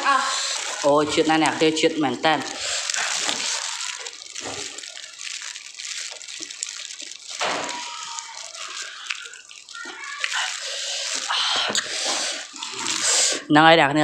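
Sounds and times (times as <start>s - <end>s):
person slurping and chewing noodles: 0.0s - 13.5s.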